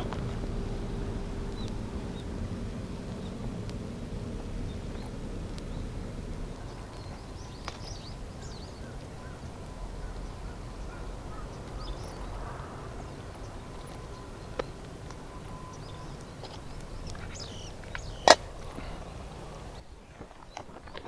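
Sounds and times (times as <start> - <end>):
high bird calls: 0.0 - 19.8
scattered clicks: 0.0 - 19.8
steady low rumble: 0.0 - 19.9.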